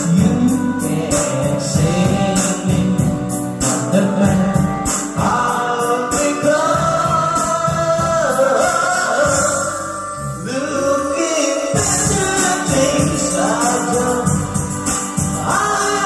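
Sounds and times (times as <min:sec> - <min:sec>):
instrumental backing track: 0:00.0 - 0:16.0.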